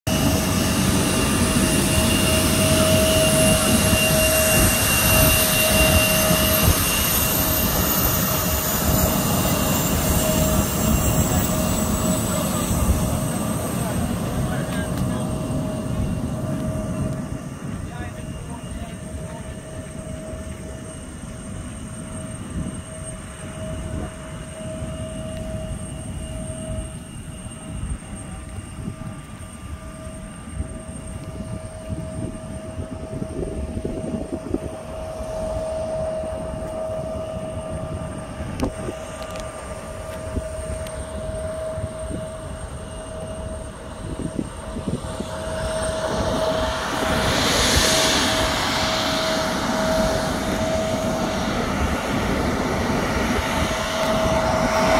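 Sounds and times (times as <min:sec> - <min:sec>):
jet engine whine and rumble: 0:00.0 - 0:54.9.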